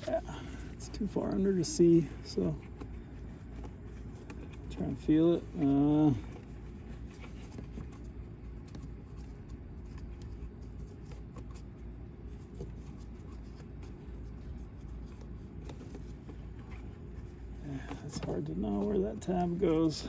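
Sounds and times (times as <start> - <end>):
hands rustling and scraping plastic: 0.0 - 20.0
steady low hum: 0.0 - 20.0.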